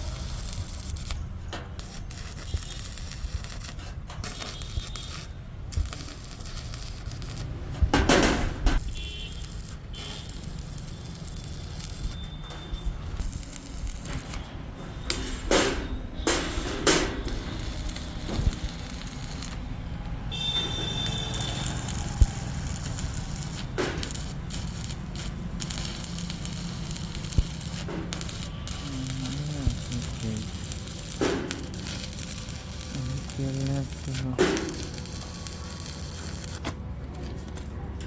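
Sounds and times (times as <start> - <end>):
electric arc welding crackling: 0.0 - 36.7.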